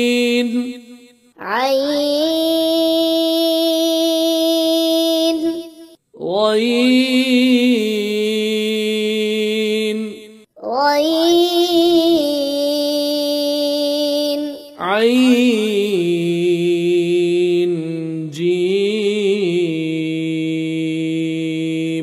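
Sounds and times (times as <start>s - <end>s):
person chanting letter names: 1.4s - 19.8s.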